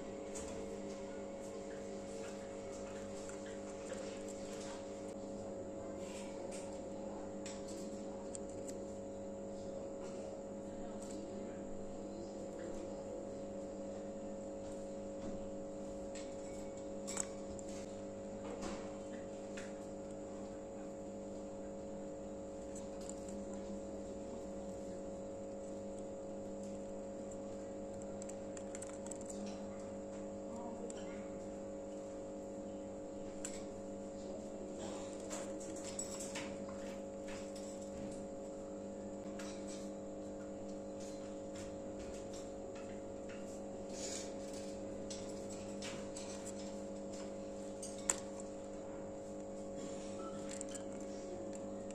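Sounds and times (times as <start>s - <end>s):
electrical mains hum: 0.0s - 51.9s.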